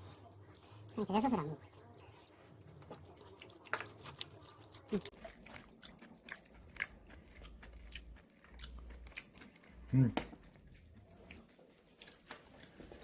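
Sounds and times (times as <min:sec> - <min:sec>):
chewing crispy food: 0:00.0 - 0:13.0.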